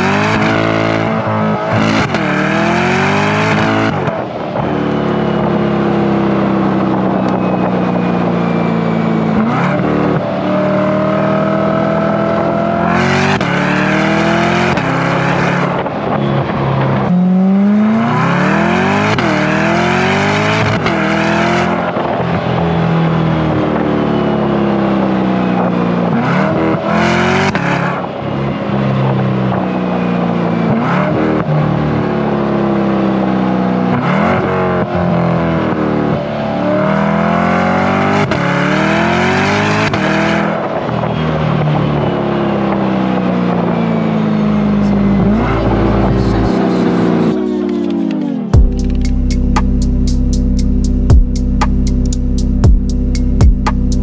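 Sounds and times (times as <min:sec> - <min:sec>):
car engine revving with upshifts: 0:00.0 - 0:54.0.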